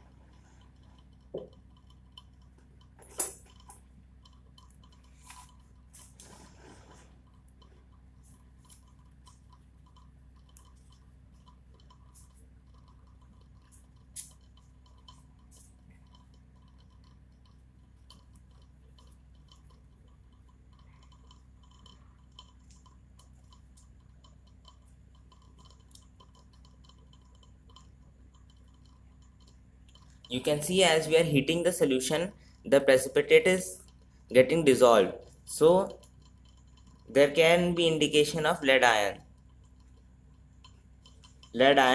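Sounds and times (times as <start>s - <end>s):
low steady hum: 0.0s - 41.9s
small ticks and clicks: 0.0s - 41.9s.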